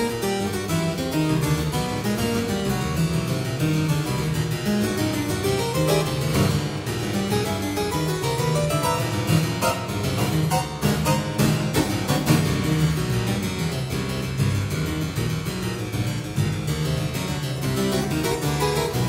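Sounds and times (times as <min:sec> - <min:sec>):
harpsichord playing fast passage: 0:00.0 - 0:19.0.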